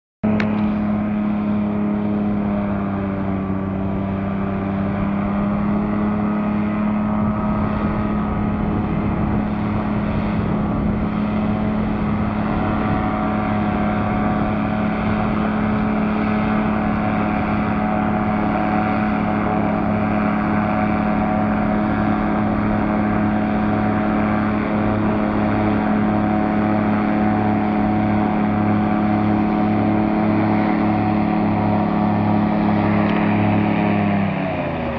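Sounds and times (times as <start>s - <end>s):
airboat engine and propeller drone: 0.2s - 34.9s.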